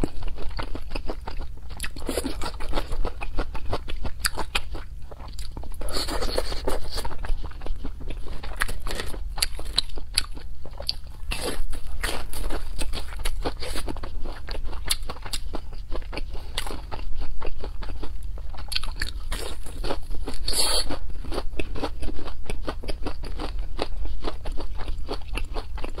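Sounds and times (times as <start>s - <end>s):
crunchy fried cutlet chewing: 0.0s - 26.0s.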